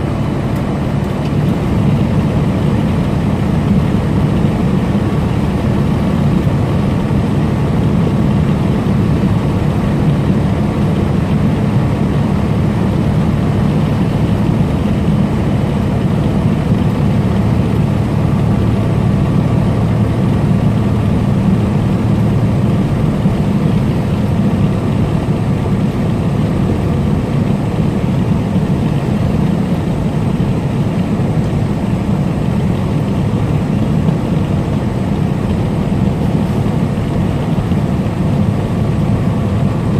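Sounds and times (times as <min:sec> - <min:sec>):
diesel truck engine drone: 0:00.0 - 0:39.9
road noise: 0:00.0 - 0:39.9.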